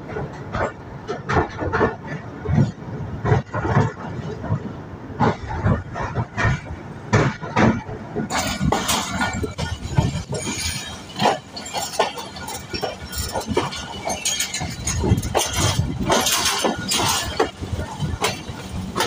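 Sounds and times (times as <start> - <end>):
low train rumble: 0.0 - 19.0
train wheels clattering over switches: 0.0 - 19.0.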